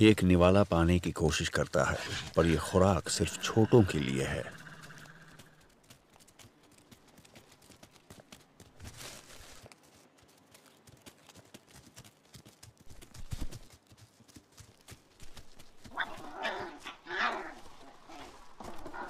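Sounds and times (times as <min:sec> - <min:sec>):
wolf pups scuffling: 0:01.4 - 0:19.0.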